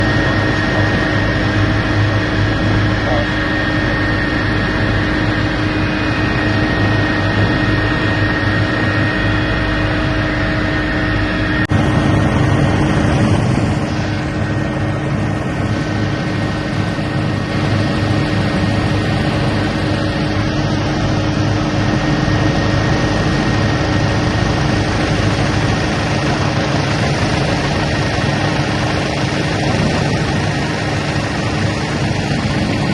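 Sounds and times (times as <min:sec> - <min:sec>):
steady engine drone: 0:00.0 - 0:32.9.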